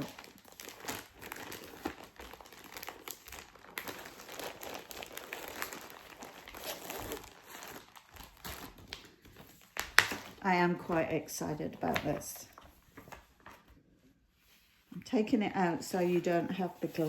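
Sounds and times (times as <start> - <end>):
packaging crinkling and rustling: 0.0 - 13.8.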